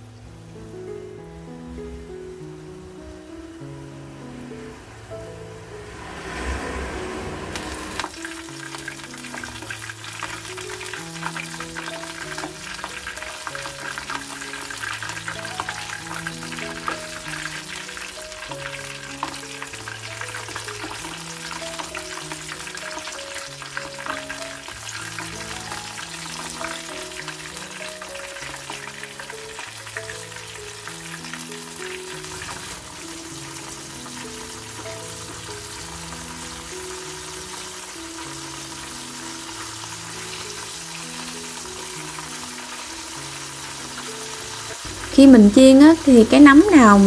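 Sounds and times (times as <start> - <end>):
food deep-frying in oil: 0.0 - 1.2, 7.5 - 47.0
gentle background melody: 0.0 - 47.0.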